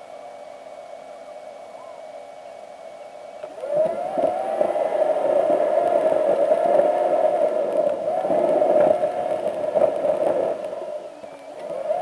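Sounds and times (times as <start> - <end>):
sped-up car driving whine: 0.0 - 12.0.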